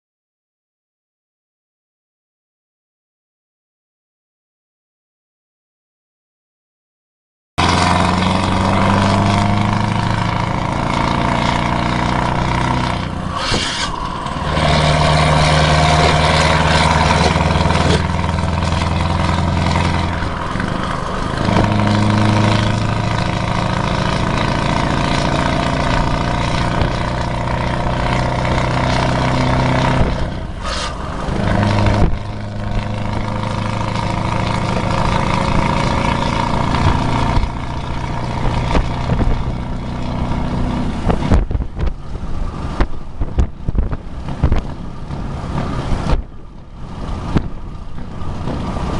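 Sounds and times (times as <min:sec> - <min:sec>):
road noise: 0:07.6 - 0:48.9
truck diesel engine under load: 0:07.6 - 0:48.9.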